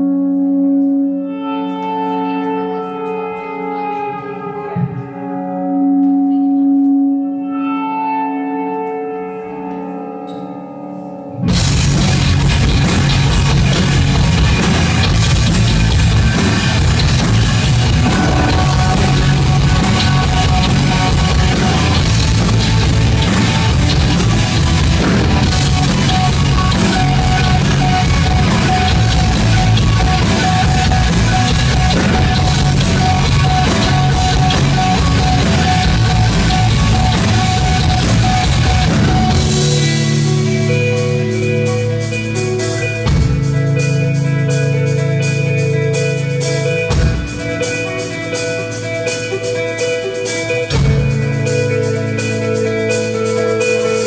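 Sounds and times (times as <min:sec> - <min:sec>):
ringing guitar: 0:00.0 - 0:54.0
rock band playing live: 0:00.0 - 0:54.0.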